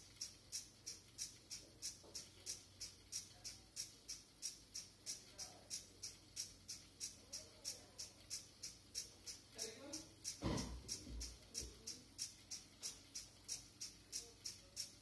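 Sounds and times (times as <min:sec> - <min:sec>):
faint steady ticking: 0:00.0 - 0:15.0.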